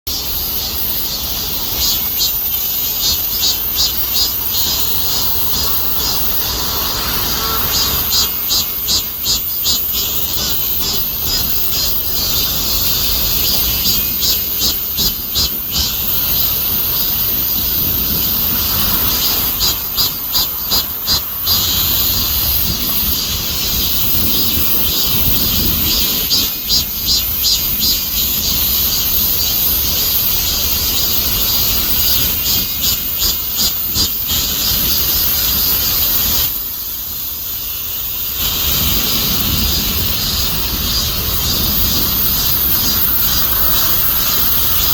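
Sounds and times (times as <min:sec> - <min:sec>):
cicadas buzzing: 0:00.0 - 0:44.9.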